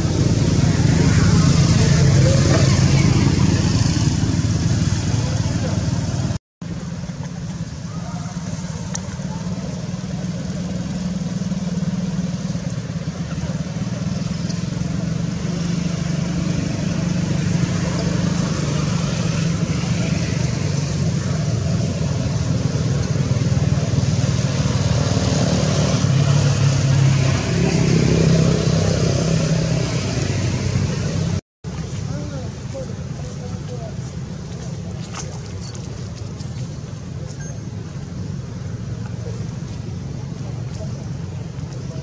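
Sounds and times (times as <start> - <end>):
engine humming: 0.0 - 42.0.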